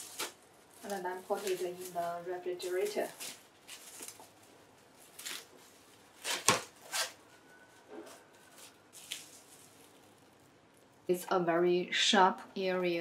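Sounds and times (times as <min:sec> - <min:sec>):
cling film crinkling: 0:00.0 - 0:11.2.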